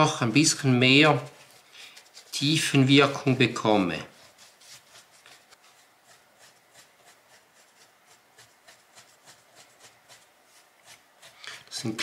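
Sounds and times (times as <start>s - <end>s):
scratchy brush strokes on plaster: 0.1s - 12.0s.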